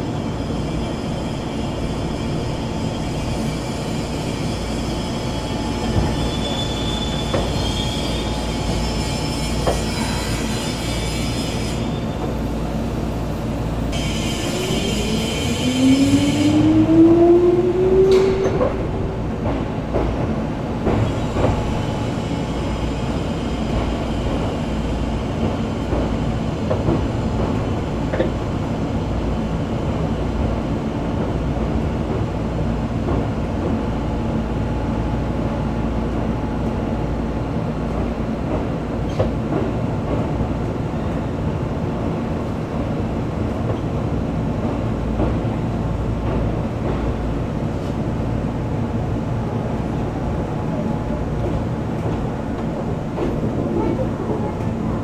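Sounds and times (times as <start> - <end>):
train rumble from inside: 0.0 - 55.0.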